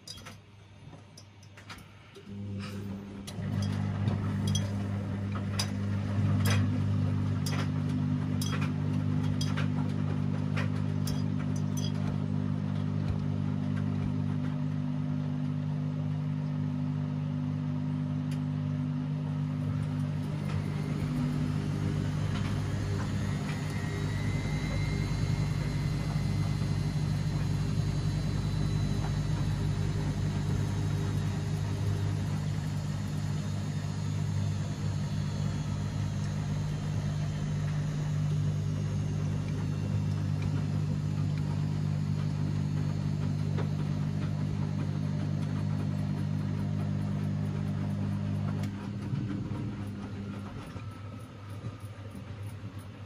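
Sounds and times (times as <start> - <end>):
washing machine drum spinning whine: 0.0 - 53.0
washing machine motor hum: 0.0 - 53.0.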